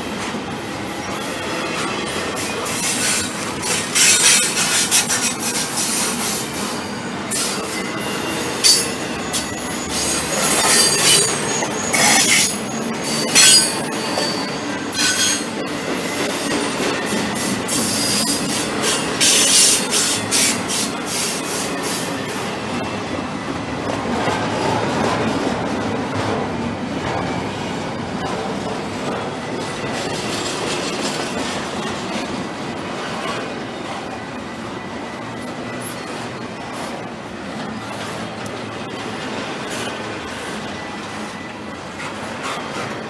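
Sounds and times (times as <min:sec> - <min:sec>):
freight train rumbling and clattering: 0:00.0 - 0:43.0.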